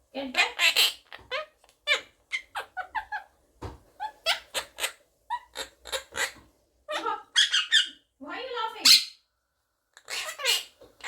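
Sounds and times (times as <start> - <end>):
parrot chirping and calling: 0.3 - 3.4, 4.0 - 8.1, 8.7 - 9.3, 9.9 - 11.0.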